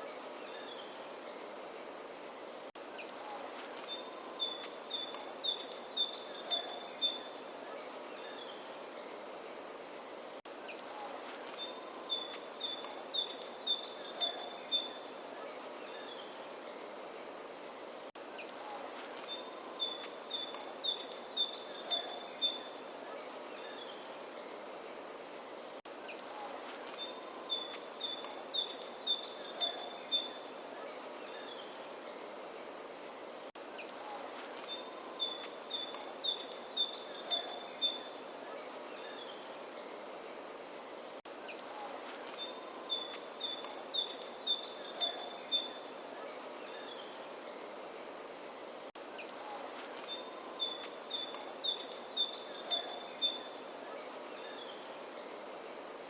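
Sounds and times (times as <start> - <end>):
soft outdoor hiss: 0.0 - 56.0
songbird singing: 0.0 - 56.0.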